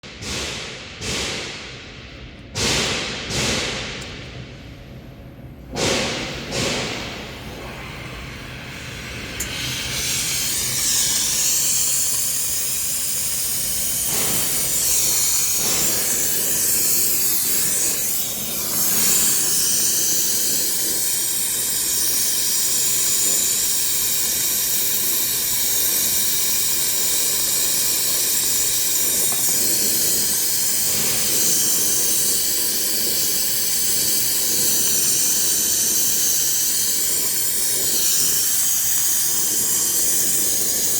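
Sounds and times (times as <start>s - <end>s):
brazing torch flame hissing: 5.7s - 40.9s.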